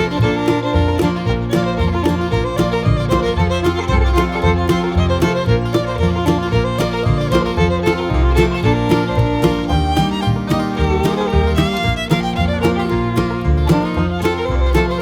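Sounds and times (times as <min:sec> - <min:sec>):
fiddle: 0:00.0 - 0:15.0
guitar: 0:00.0 - 0:15.0.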